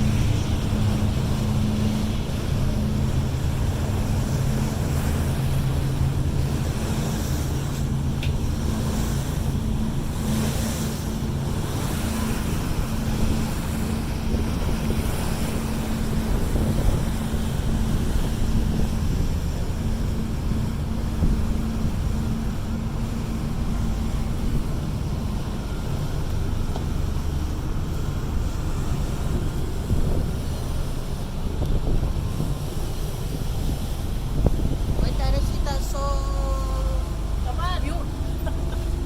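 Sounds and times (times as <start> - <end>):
boat engine humming: 0.0 - 39.0
water rushing past hull: 0.0 - 39.0
wind buffeting microphone: 0.0 - 39.0.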